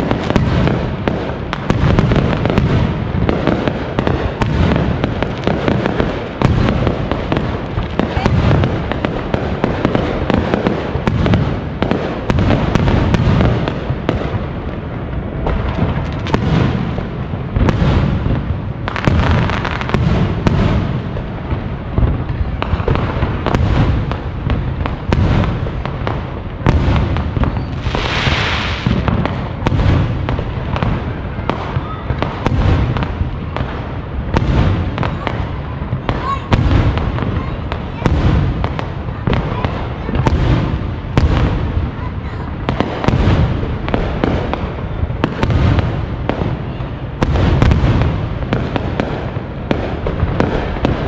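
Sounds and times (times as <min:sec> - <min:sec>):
firework crackling: 0:00.0 - 0:51.0
firework shells booming: 0:00.0 - 0:51.0.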